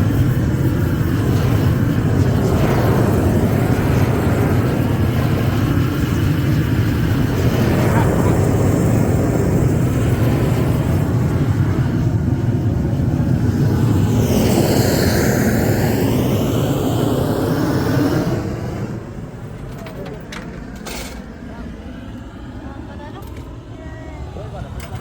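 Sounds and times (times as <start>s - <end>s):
gas torch roaring: 0.0s - 22.6s.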